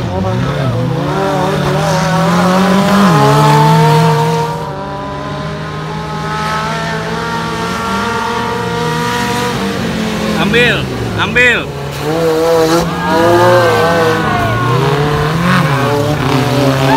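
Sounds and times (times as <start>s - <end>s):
off-road vehicle engine revving: 0.0s - 16.9s.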